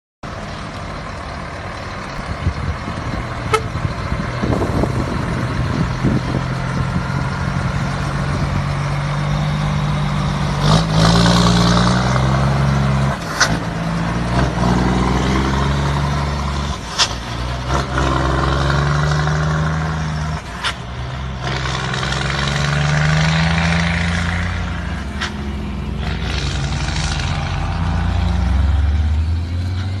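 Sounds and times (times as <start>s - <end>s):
diesel truck engine revving: 0.2s - 30.0s.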